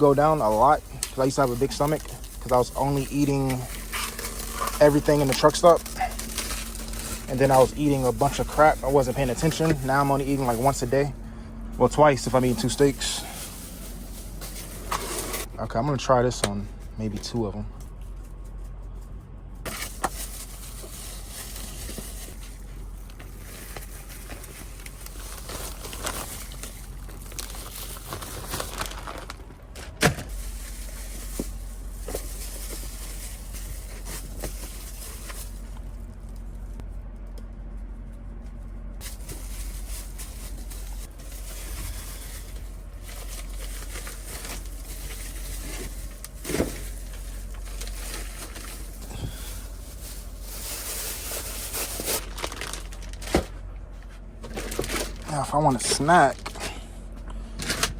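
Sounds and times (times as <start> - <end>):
containers and packaging handled: 0.0 - 57.9
steady low hum: 0.0 - 57.9.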